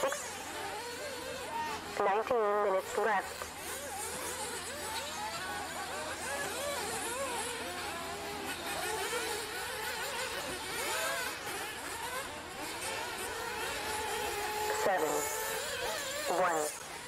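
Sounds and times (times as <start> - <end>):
rc car engines whining: 0.0 - 17.0.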